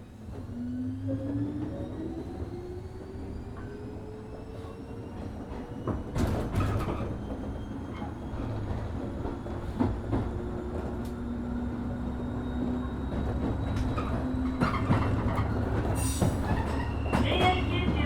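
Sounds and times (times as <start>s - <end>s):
train wheels rumbling on rails: 0.2s - 18.0s.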